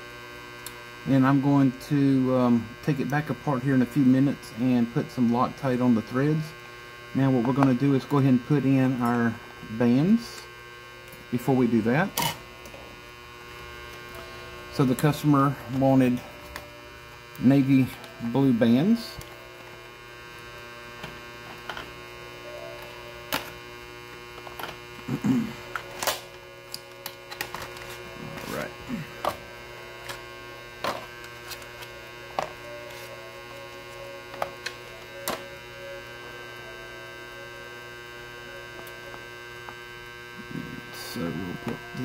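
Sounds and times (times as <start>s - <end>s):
steady electrical hum: 0.0s - 42.0s.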